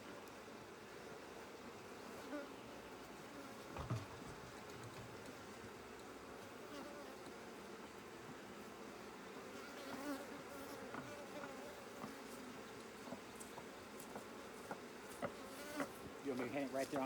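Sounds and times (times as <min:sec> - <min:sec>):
single bee flying past: 0:00.0 - 0:16.3
bees buzzing: 0:00.0 - 0:17.0.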